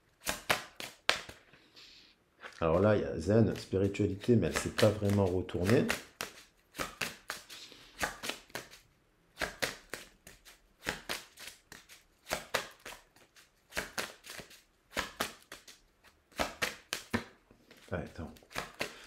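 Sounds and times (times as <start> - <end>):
cards being shuffled: 0.2 - 1.4, 2.4 - 19.0.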